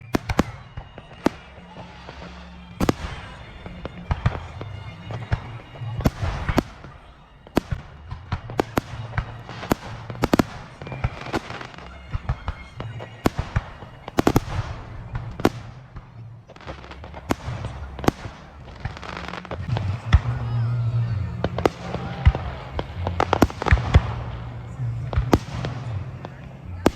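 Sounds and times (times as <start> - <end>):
fireworks bangs: 0.0 - 26.9
fireworks crackling and hiss: 0.0 - 26.9.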